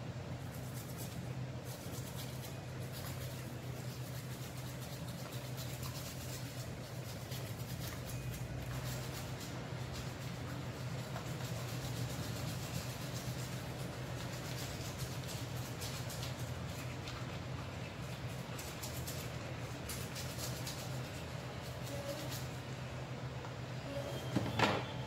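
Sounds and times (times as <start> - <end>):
room fan humming: 0.0 - 25.0
toothbrush scratching on teeth: 0.4 - 22.8.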